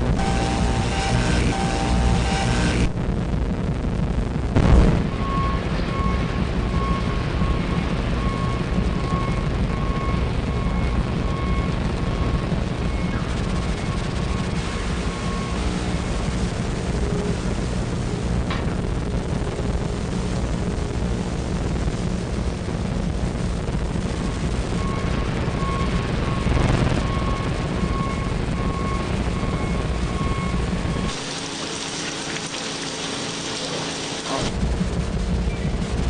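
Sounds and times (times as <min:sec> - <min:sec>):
dense low rumbling: 0:00.0 - 0:31.0.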